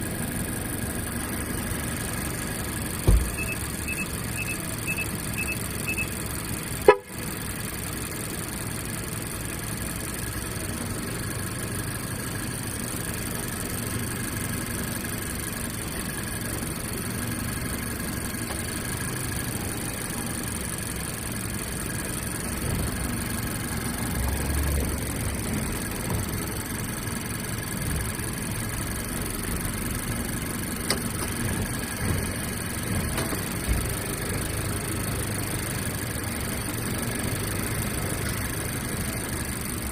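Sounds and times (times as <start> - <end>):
car engine idling with knocking: 0.0 - 39.9.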